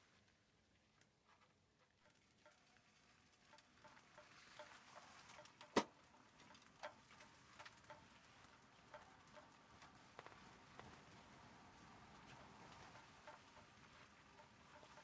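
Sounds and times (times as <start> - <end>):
faint small ticks and clicks: 1.0 - 15.0.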